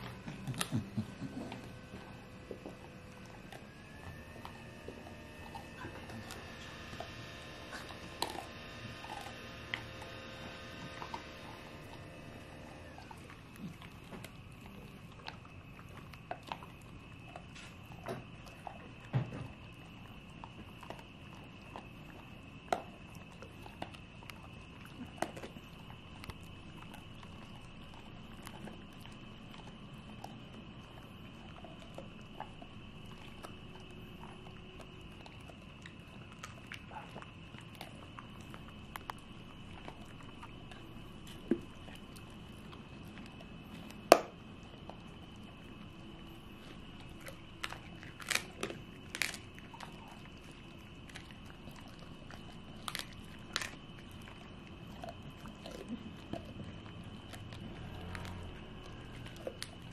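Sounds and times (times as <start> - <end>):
dog licking and nibbling: 0.0 - 59.9.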